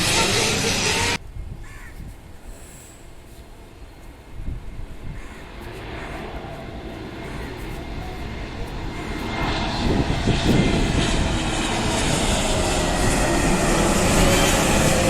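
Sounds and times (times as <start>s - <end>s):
jet airliner engines: 0.0s - 1.2s, 2.5s - 15.0s.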